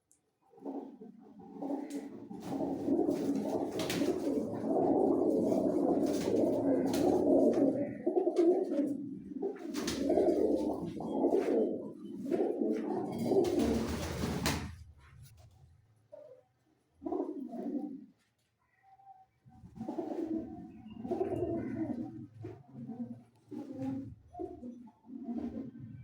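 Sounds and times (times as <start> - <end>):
pigeons cooing: 0.6 - 14.7, 17.0 - 18.2, 19.4 - 26.0.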